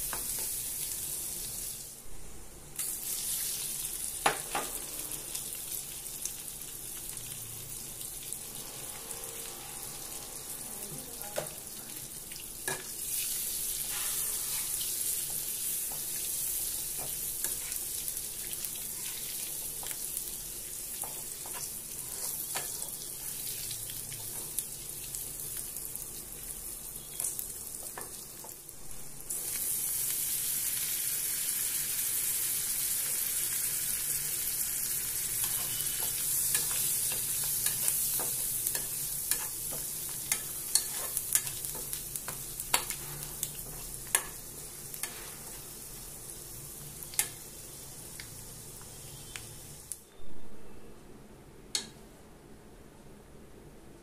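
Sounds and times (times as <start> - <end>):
eggs sizzling in a pan: 0.0 - 2.0, 2.8 - 50.1.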